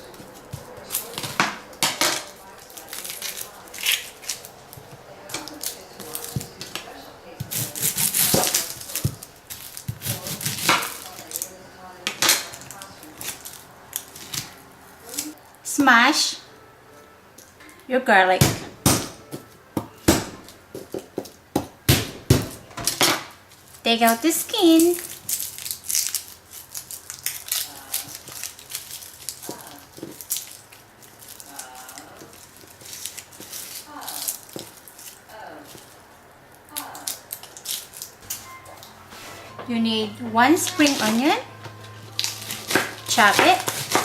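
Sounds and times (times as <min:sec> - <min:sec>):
garlic cloves being peeled: 0:00.0 - 0:15.4, 0:18.4 - 0:38.5, 0:40.6 - 0:44.0.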